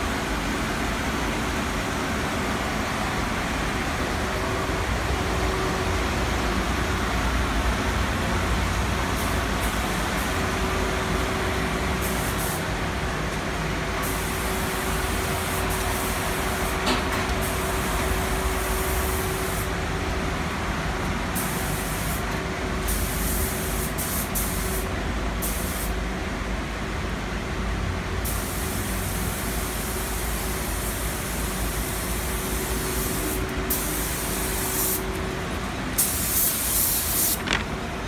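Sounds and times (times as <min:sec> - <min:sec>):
workshop machinery hum: 0:00.0 - 0:38.0.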